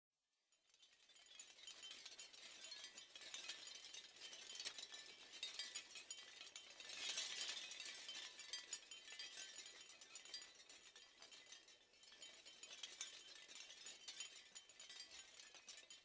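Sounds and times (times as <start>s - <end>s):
seashell wind chimes clinking: 1.1s - 16.0s.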